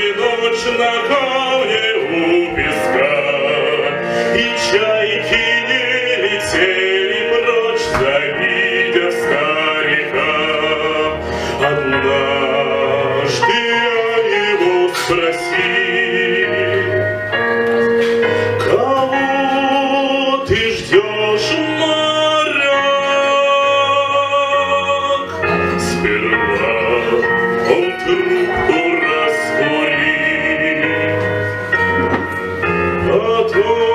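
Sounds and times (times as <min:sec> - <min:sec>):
man singing operatically: 0:00.0 - 0:17.3, 0:18.6 - 0:31.9, 0:32.6 - 0:33.9
instrumental accompaniment: 0:00.0 - 0:33.9.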